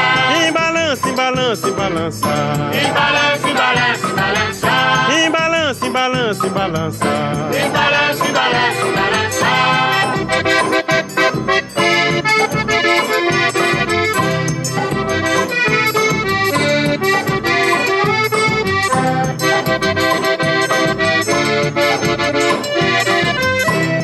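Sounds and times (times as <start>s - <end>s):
accordion melody: 0.0s - 24.0s
rhythmic percussion: 0.0s - 24.0s.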